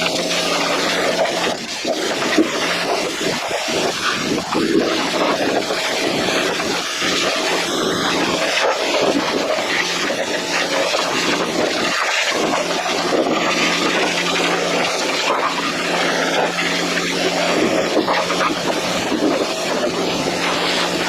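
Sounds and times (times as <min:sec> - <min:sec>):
pressure washer spraying water: 0:00.0 - 0:21.0
steady low hum: 0:00.0 - 0:21.0.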